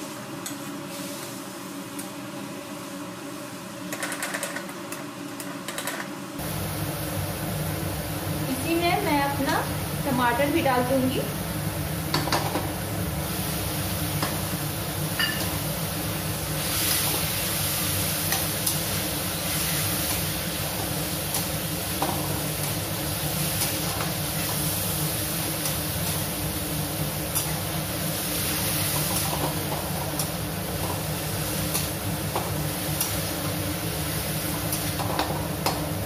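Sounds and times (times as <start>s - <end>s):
food sizzling in a pan: 0.0s - 3.8s, 6.4s - 36.0s
steady low hum: 6.3s - 36.0s.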